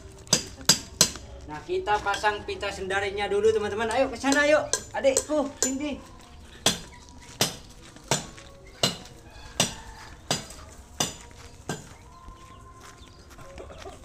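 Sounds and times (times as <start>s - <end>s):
footsteps in flip-flops: 0.0s - 14.0s.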